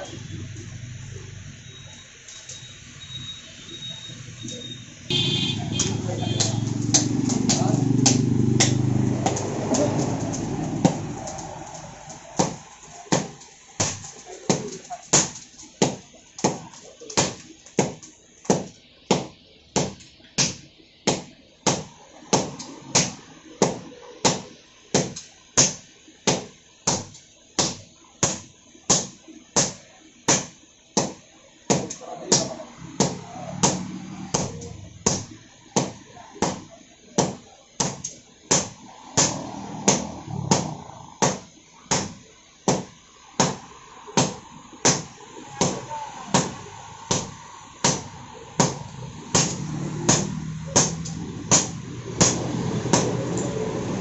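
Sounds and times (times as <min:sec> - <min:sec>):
sledgehammers striking hot iron: 0:05.1 - 0:54.0.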